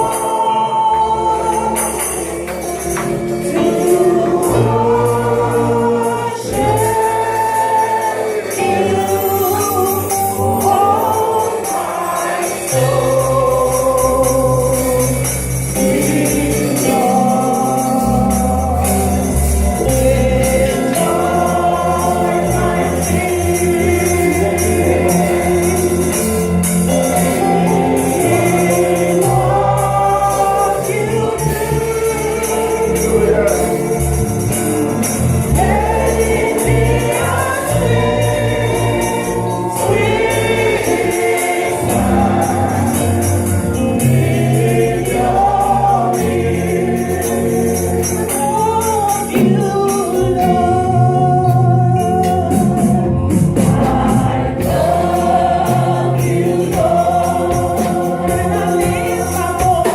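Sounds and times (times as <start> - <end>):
band with bass and drums: 0.0 - 8.0, 12.6 - 59.9
choir singing: 0.0 - 59.9.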